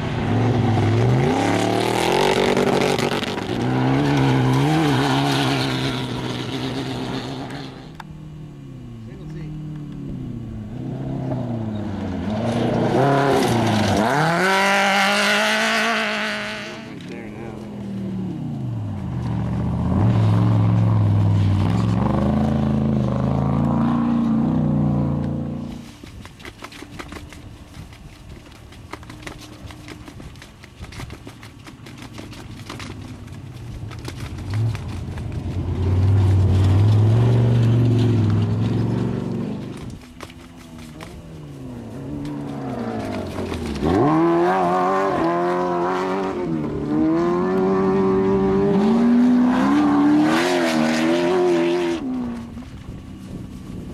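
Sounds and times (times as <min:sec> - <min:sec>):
race vehicle engine passing: 0:00.0 - 0:25.9, 0:34.0 - 0:40.0, 0:40.6 - 0:52.6.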